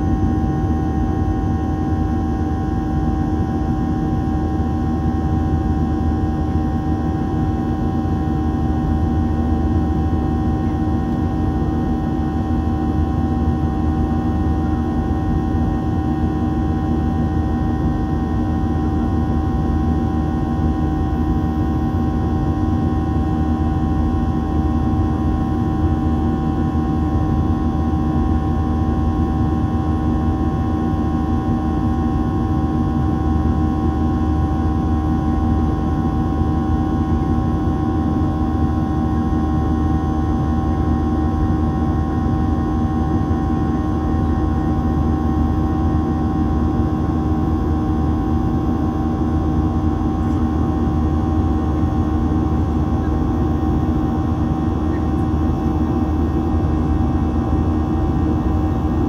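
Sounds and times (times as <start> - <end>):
jet cabin engine drone: 0.0 - 59.0.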